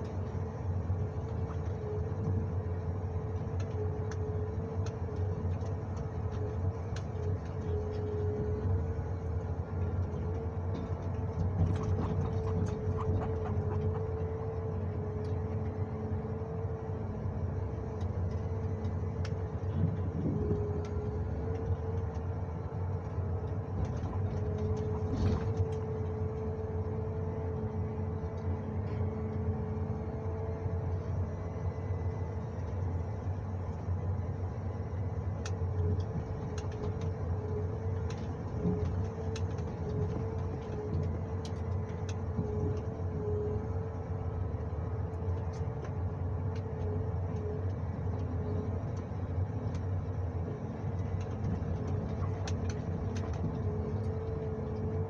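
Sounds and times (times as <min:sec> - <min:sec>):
forestry machine engine drone: 0:00.0 - 0:55.0.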